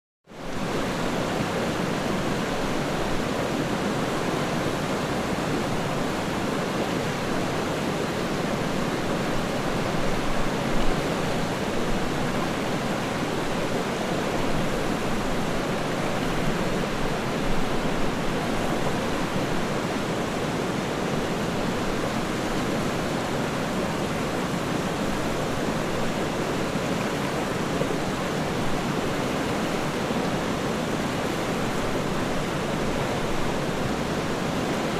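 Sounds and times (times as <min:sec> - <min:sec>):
rushing water: 0:00.3 - 0:34.9.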